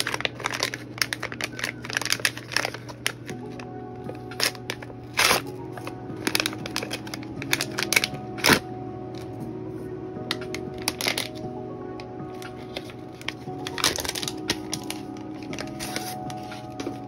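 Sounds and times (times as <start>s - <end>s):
foil bag crinkling: 0.0s - 9.3s, 10.3s - 11.5s, 12.3s - 17.0s
soft background music: 0.0s - 17.0s.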